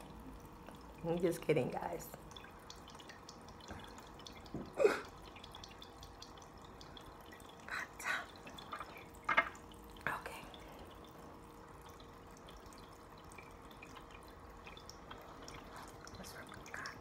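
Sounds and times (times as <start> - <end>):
fountain water trickling: 0.0 - 17.0
water drops plinking: 0.0 - 17.0.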